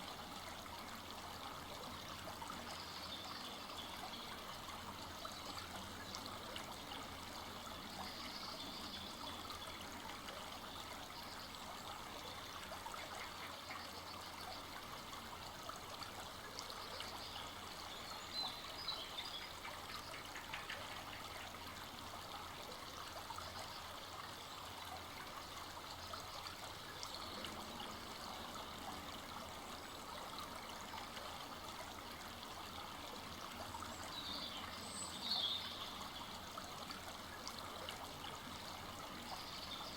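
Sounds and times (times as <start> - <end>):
brook trickling over stones: 0.0 - 39.9.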